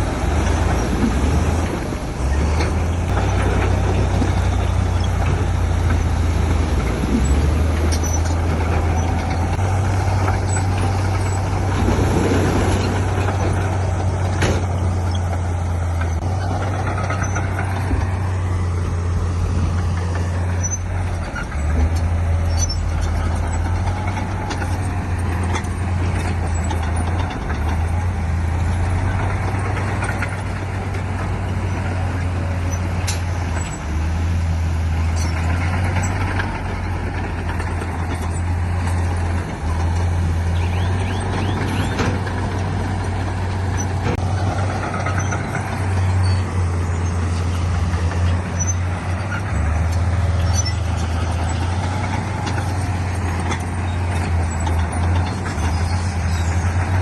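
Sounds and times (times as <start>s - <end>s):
heavy diesel engines rumbling: 0.0s - 57.0s.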